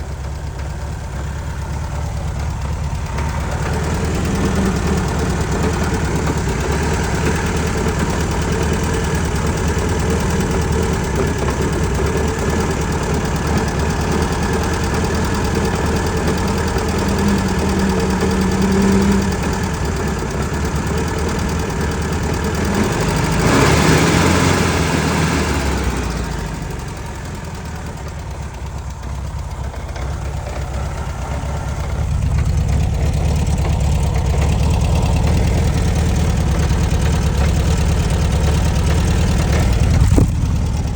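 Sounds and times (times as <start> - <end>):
car engine idling: 0.0 - 40.9
engine clunking noise: 0.0 - 40.9.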